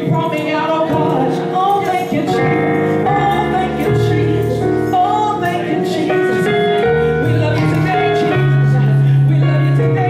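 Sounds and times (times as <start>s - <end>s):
instrumental accompaniment: 0.0s - 10.0s
women singing gospel song: 0.0s - 10.0s.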